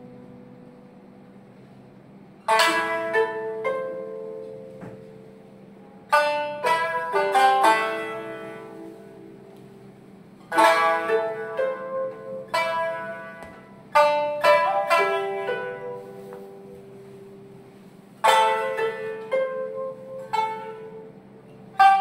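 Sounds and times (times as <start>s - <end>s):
plucked string music: 0.0s - 22.0s.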